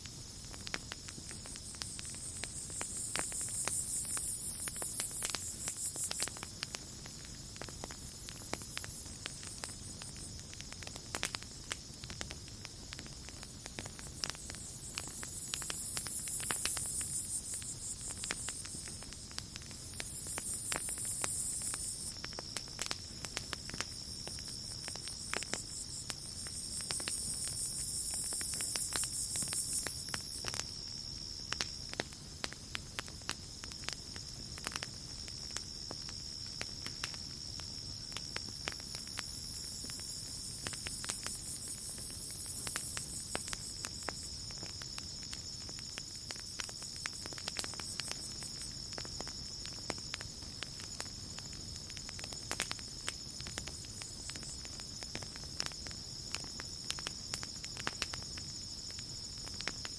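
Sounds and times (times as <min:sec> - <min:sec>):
campfire crackling and popping: 0:00.0 - 0:59.9
cricket trill: 0:00.0 - 0:59.9.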